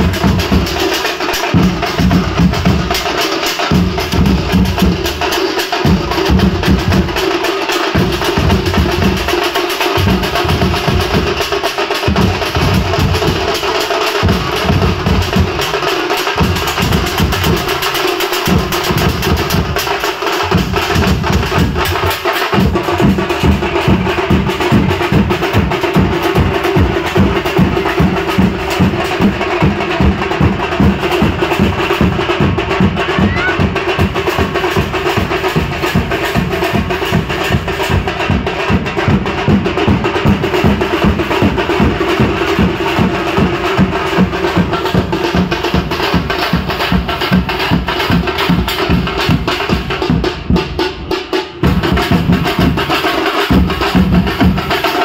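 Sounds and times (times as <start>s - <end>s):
group of drums playing fast rhythm: 0.0s - 55.0s.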